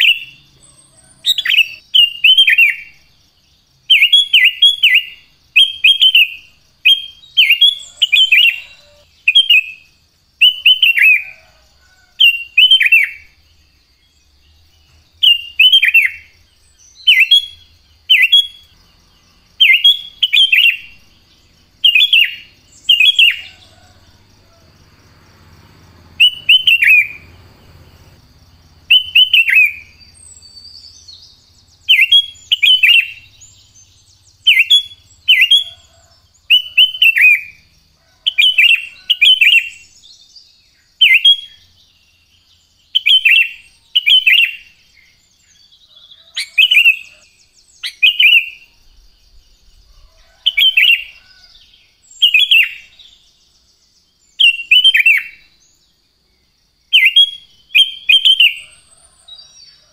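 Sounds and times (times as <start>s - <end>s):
bulbul singing: 0.0s - 55.8s, 56.8s - 59.9s.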